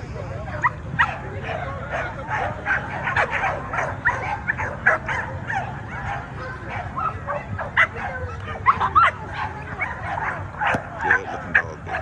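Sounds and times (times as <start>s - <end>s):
dogs barking and whining: 0.5s - 12.0s.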